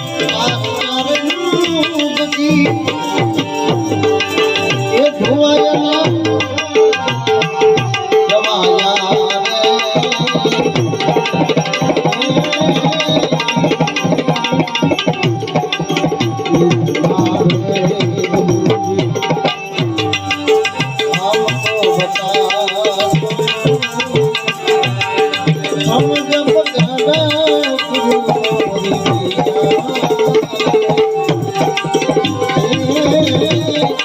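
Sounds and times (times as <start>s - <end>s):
sustained melodic accompaniment: 0.0s - 34.0s
tabla rhythm: 0.0s - 34.0s.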